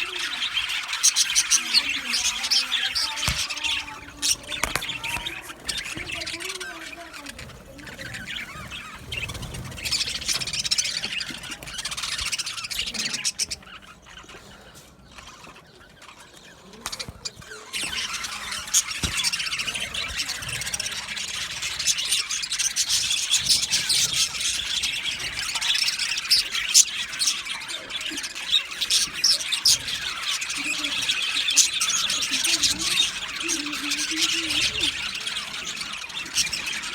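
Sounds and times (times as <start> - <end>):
budgerigars chattering: 0.0 - 36.9.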